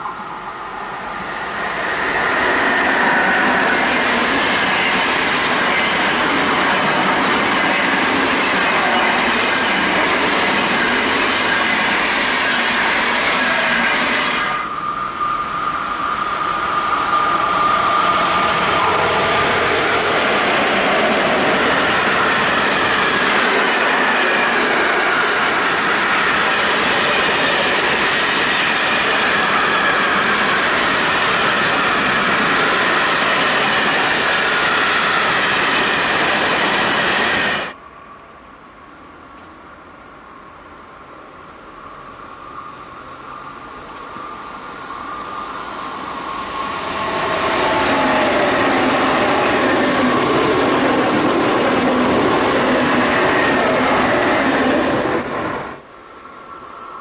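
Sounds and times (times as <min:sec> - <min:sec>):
train wheels rolling on rails: 0:00.0 - 0:37.8, 0:42.3 - 0:57.0
high squealing tones: 0:01.4 - 0:37.7, 0:44.9 - 0:55.8.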